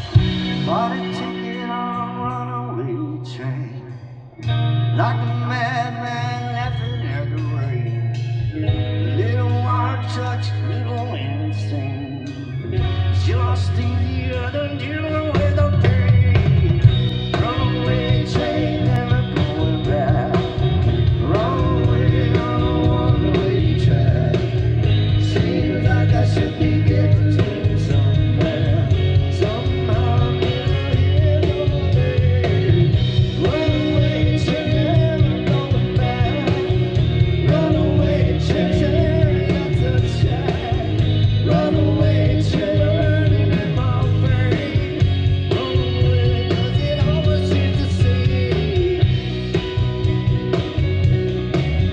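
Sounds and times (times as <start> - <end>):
drum kit beat: 0.0 - 2.2, 12.3 - 51.9
electric bass: 0.0 - 51.9
electric guitars: 0.0 - 51.9.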